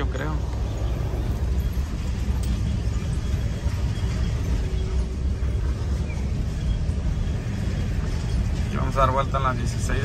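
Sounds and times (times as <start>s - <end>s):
vehicle rumbling over cobblestones: 0.0s - 10.0s.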